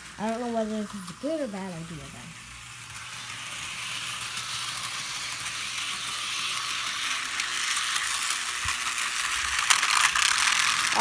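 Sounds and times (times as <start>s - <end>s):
model train whirring: 0.0s - 11.0s.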